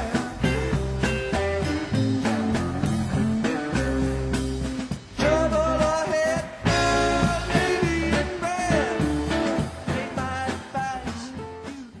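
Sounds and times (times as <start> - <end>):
bass line: 0.0 - 12.0
rock song with singing: 0.0 - 12.0.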